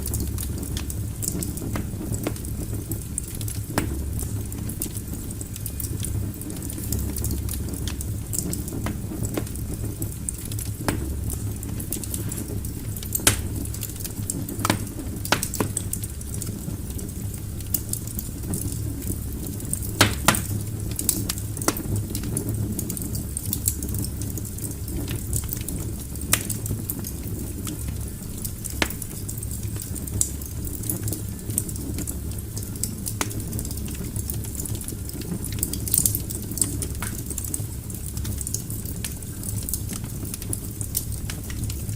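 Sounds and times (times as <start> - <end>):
flames rumbling in fireplace: 0.0 - 41.9
wood crackling and popping: 0.0 - 41.9.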